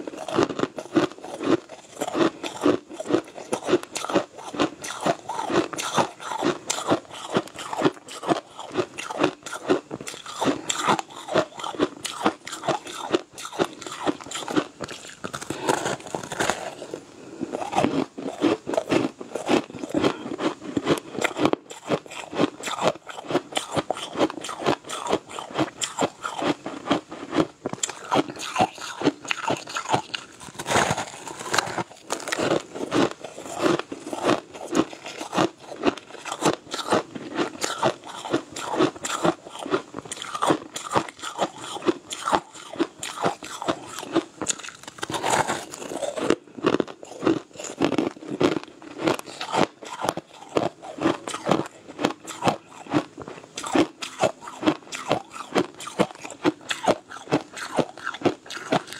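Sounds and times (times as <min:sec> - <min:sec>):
crunching ice being chewed: 0:00.0 - 0:58.9.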